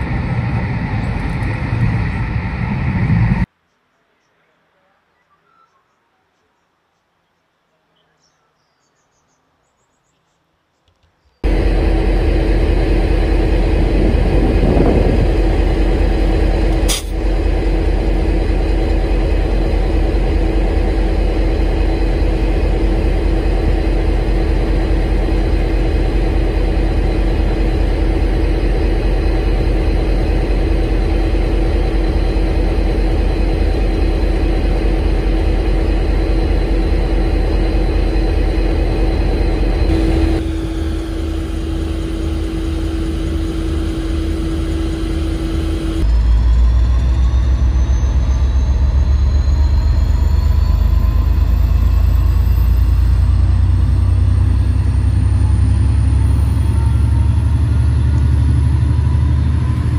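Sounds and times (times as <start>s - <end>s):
diesel locomotive engine running: 0.0s - 3.5s, 11.4s - 59.9s.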